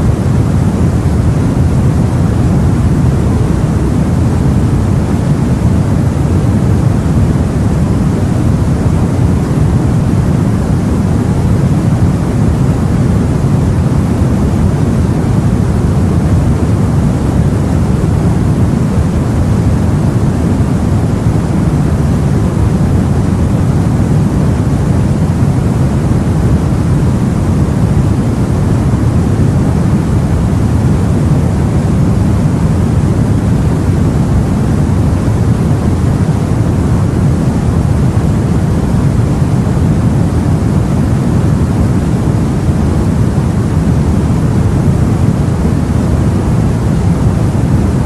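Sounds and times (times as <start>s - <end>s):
sea and wind rumbling: 0.0s - 48.0s.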